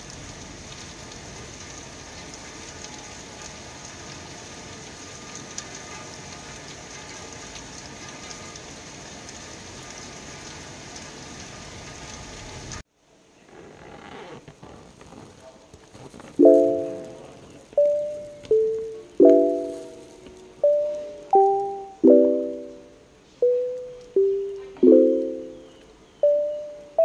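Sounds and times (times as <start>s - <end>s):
heavy rain: 0.0s - 27.0s.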